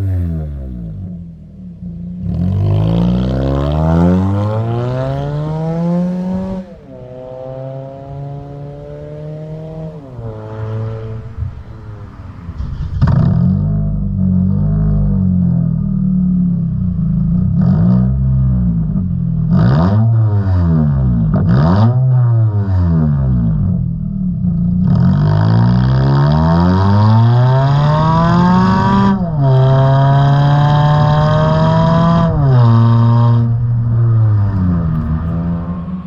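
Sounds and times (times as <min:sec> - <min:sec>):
car exhaust revving: 0:00.0 - 0:36.0.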